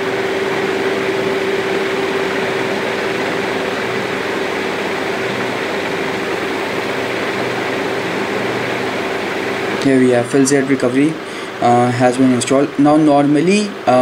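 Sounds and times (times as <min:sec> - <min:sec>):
mid-pitched hum tone: 0:00.0 - 0:14.0.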